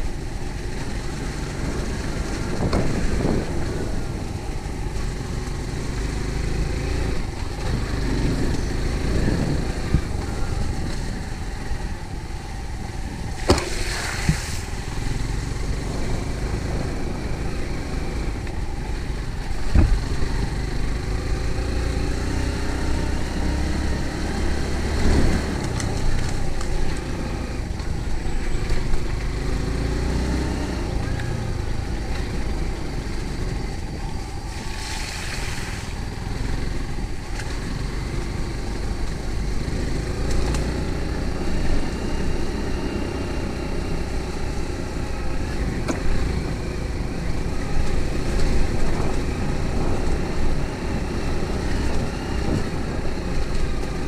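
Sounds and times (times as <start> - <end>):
motor vehicle engine rumbling: 0.0 - 54.0.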